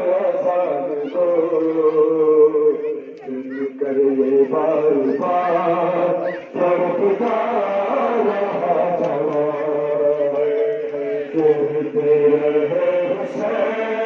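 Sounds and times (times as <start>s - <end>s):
men chanting over loudspeaker: 0.0s - 14.0s.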